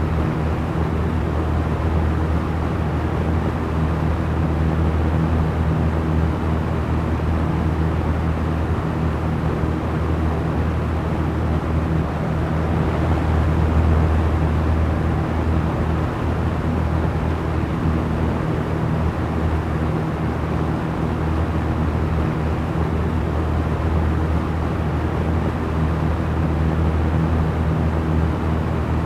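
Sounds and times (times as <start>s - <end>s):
electric fan running: 0.0s - 29.0s.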